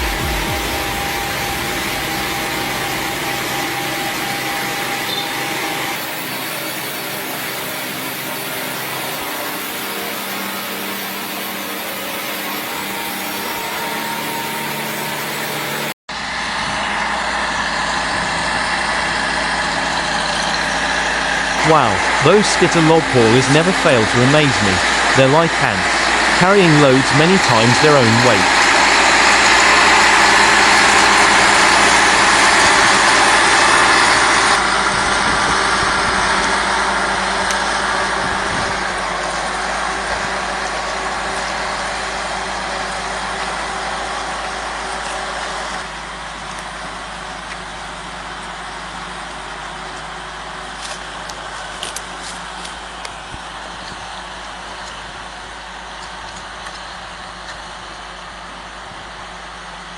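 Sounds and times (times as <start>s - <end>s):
wood-cutting saw running: 0.0s - 59.8s
engine running steadily: 0.0s - 59.9s.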